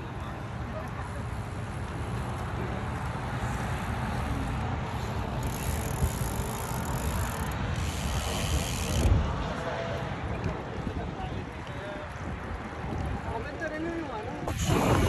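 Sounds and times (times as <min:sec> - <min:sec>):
road and wind noise rumble: 0:00.0 - 0:15.0.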